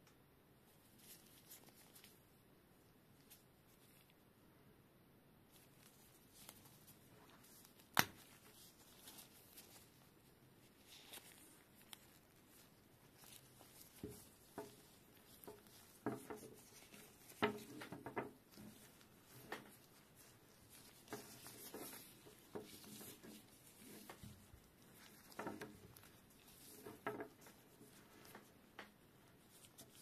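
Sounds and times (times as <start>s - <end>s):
gloves rubbing on cable: 0.7s - 2.4s, 5.5s - 30.0s
small knocks and rubs: 5.5s - 30.0s.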